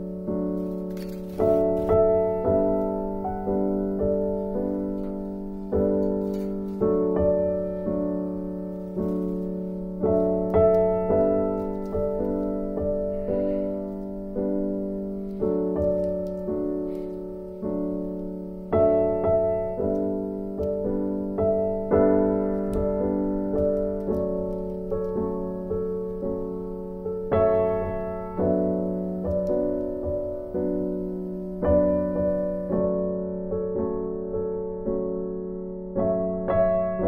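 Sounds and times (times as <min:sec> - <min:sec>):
keyboard chords: 0:00.0 - 0:37.0.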